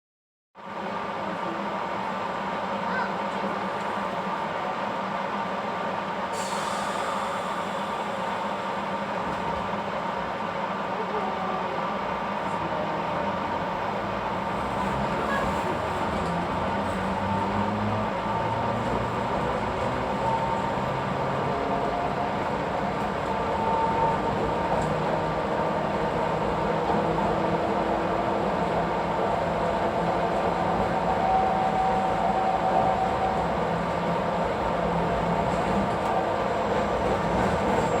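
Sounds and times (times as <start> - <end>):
electric train running rumble: 0.6 - 38.0.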